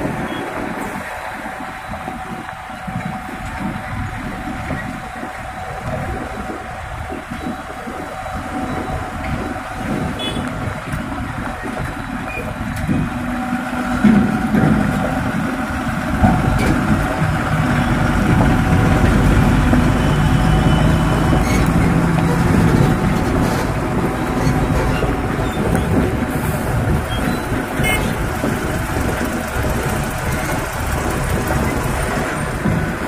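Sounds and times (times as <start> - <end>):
diesel truck engines driving past: 0.0 - 33.0.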